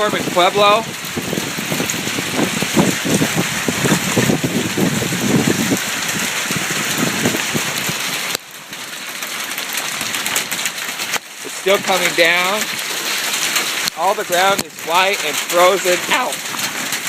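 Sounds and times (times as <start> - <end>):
hail pelting down: 0.0 - 17.0.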